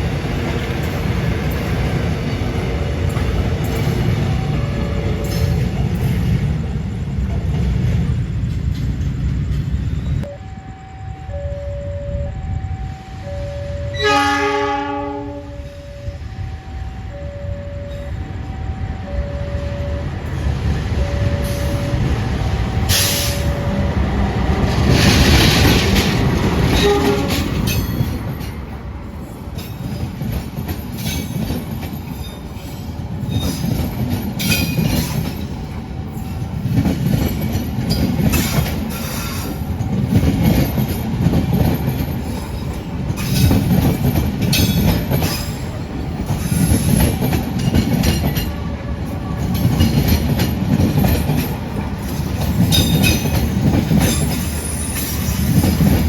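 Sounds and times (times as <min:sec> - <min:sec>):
train wheels clattering: 0:00.0 - 0:10.3, 0:20.4 - 0:56.0.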